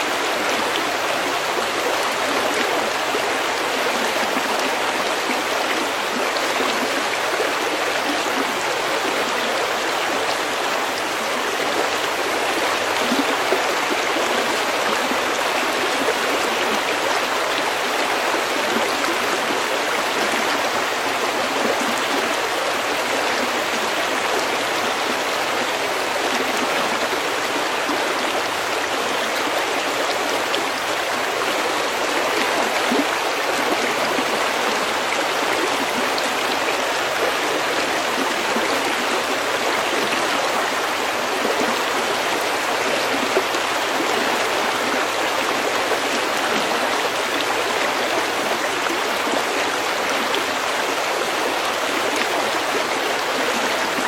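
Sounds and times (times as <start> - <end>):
stream flowing over pebbles: 0.0 - 54.0.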